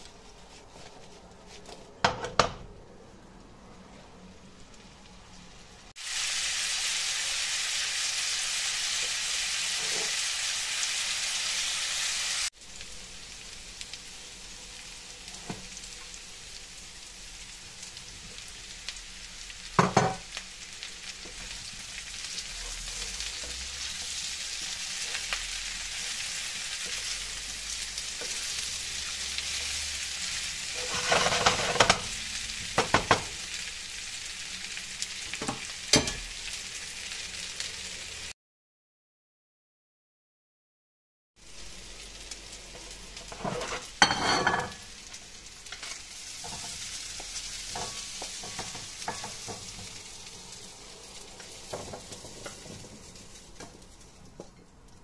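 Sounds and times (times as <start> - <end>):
potatoes and meat sizzling in pan: 4.0 - 38.4, 41.4 - 55.0.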